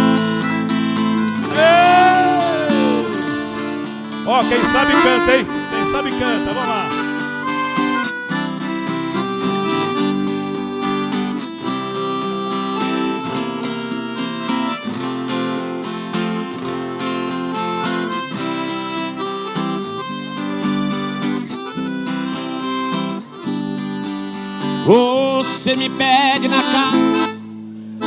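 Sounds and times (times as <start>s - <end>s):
harmonica melody: 0.0s - 28.0s
strummed acoustic guitar: 0.0s - 28.0s.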